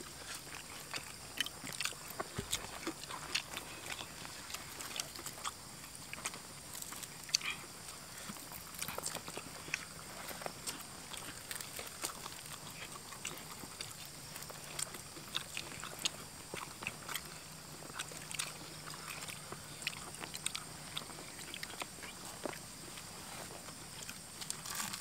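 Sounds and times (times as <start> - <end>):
people chewing crispy fried fish: 0.0 - 25.0.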